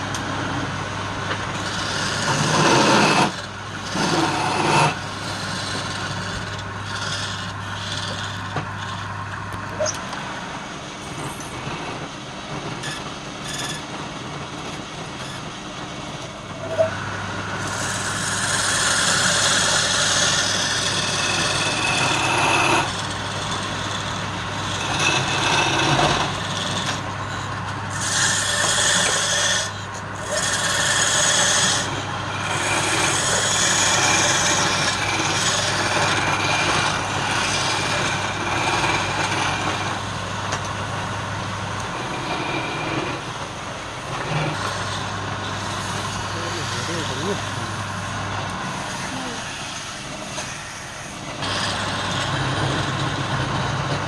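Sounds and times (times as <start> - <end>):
lathe hum: 0.0 - 54.0
tool cutting spinning wood: 0.0 - 54.0.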